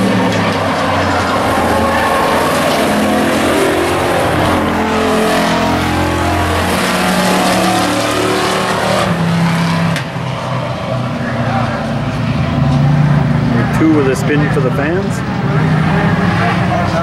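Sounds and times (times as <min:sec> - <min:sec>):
race truck engines revving: 0:00.0 - 0:17.0.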